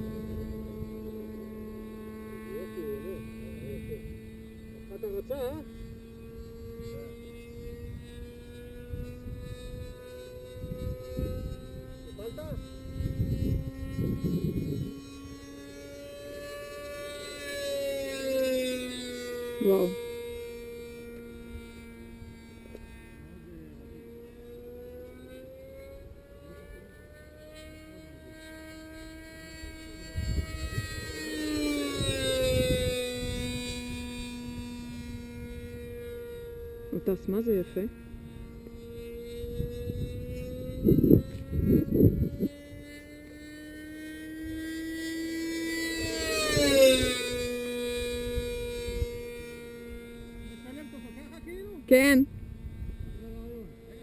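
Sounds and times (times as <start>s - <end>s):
model plane engine idling: 0.0s - 54.0s.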